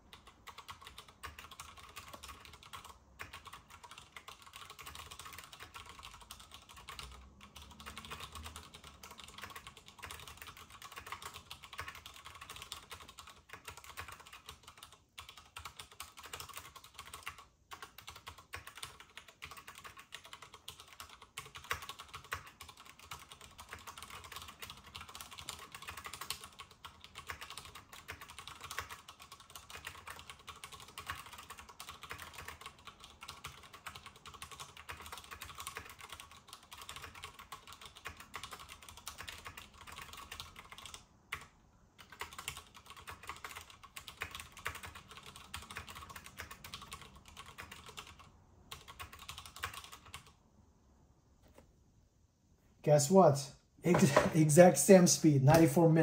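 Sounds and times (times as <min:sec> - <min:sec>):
mechanical keyboard typing: 0:00.0 - 0:50.4.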